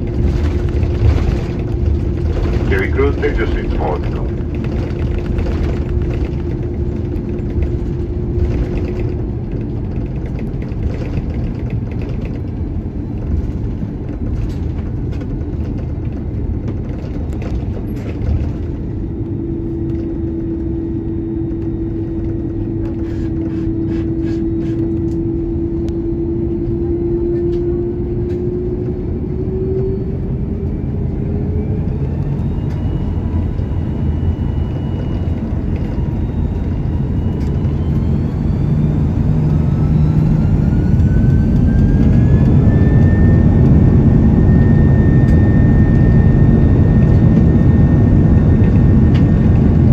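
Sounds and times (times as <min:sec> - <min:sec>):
engines whining: 0:00.0 - 0:49.9
jet engines rumbling: 0:00.0 - 0:49.9.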